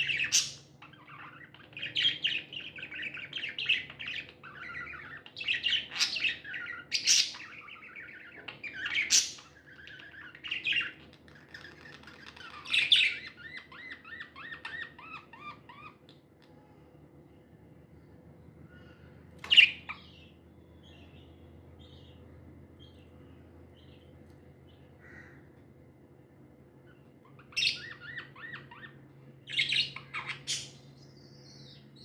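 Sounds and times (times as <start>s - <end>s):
budgerigars chirping and warbling: 0.0s - 16.2s, 18.7s - 24.1s, 26.9s - 32.0s
loud sharp bird calls: 0.0s - 16.2s, 18.7s - 23.1s, 24.7s - 25.5s, 26.9s - 32.0s.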